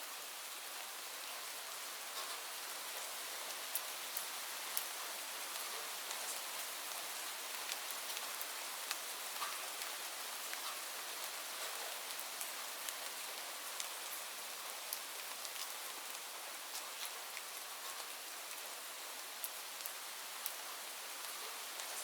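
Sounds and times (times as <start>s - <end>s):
steady rain: 0.0s - 22.0s
raindrops ticking close by: 2.0s - 22.0s.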